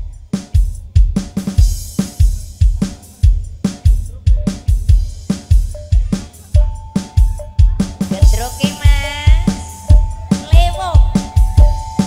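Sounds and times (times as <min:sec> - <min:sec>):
deep drum strokes: 0:00.0 - 0:12.0
pitched percussion notes: 0:00.0 - 0:12.0.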